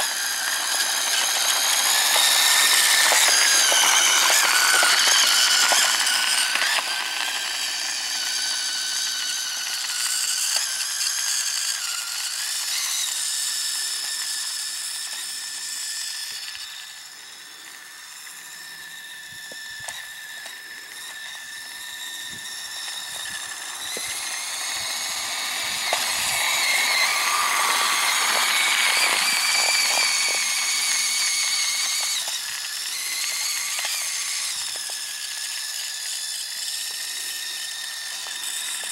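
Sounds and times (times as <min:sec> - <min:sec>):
rc motor and gears whining: 0:00.0 - 0:38.9.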